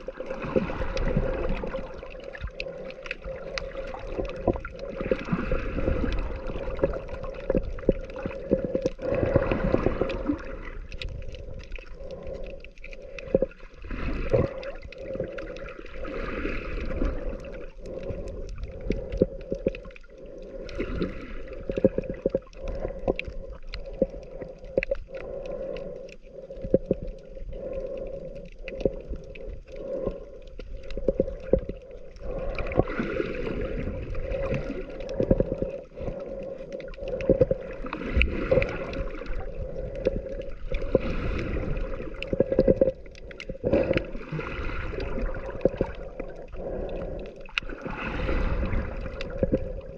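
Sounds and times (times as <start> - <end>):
low underwater hum: 0.0 - 49.9
small underwater clicks and pops: 0.0 - 49.9
underwater sloshing and gurgling: 0.0 - 49.9.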